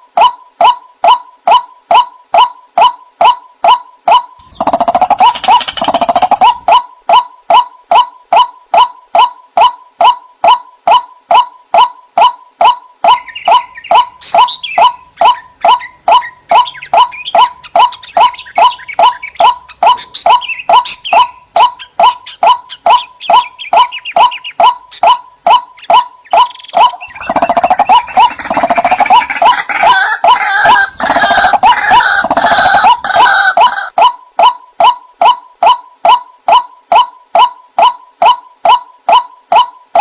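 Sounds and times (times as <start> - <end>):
waterhen calling repeated notes: 0.0 - 40.0
higher harsh bird calls: 0.2 - 40.0.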